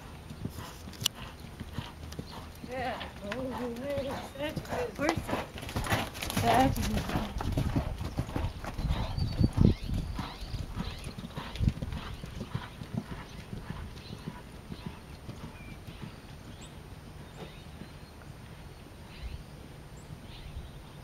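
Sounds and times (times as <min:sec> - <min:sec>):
horse hoofbeats on sand: 0:00.0 - 0:18.1.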